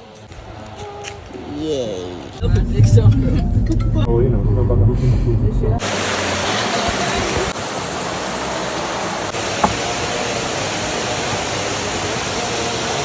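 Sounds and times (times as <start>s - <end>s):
flowing water rushing: 2.5s - 13.0s.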